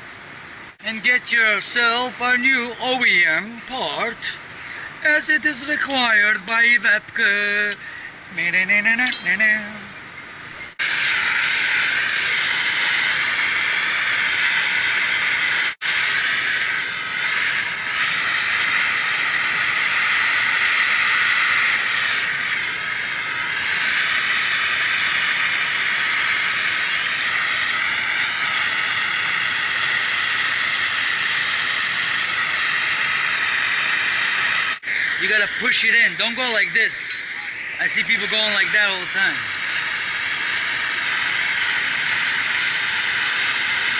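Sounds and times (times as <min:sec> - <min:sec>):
loud steady hiss: 0:00.0 - 0:43.9.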